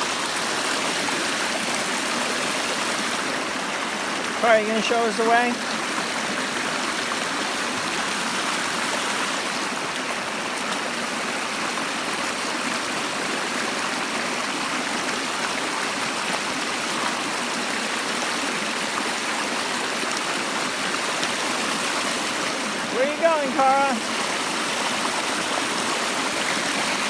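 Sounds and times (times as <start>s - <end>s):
creek rushing: 0.0s - 27.0s.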